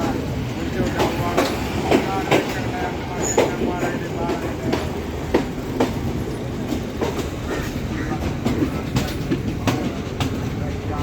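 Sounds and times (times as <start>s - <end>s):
train rolling rumble: 0.0s - 11.0s
wheels clacking over rail joints: 0.0s - 11.0s.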